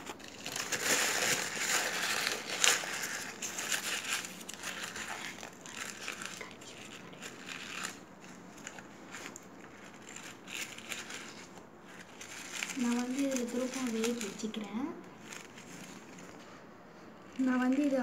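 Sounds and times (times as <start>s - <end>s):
paper crumpling: 0.0s - 16.6s.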